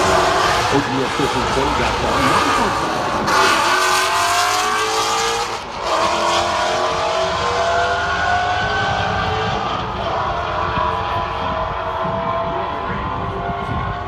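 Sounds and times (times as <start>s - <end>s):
racing car engine at full throttle: 0.0s - 14.0s.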